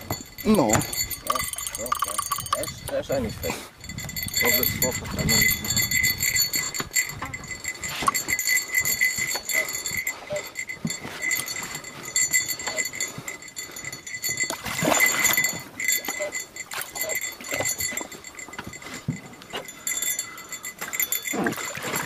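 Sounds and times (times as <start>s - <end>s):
water sloshing against boat: 0.0s - 22.0s.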